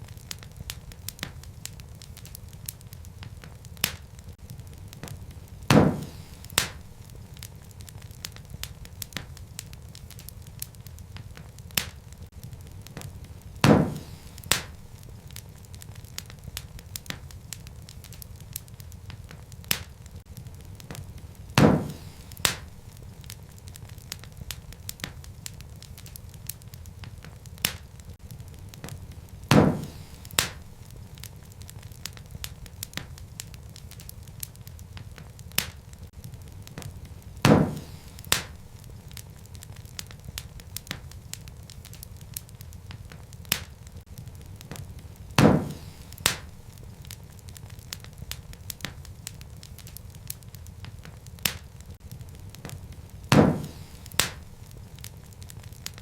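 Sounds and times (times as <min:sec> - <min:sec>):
burning logs popping: 0:00.0 - 0:56.0
fire crackling: 0:00.0 - 0:56.0
fire flames rumbling: 0:00.0 - 0:56.0.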